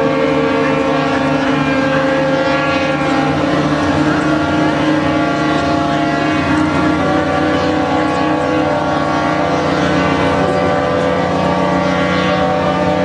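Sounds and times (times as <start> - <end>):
ship horns sounding in a chord: 0.0 - 13.0.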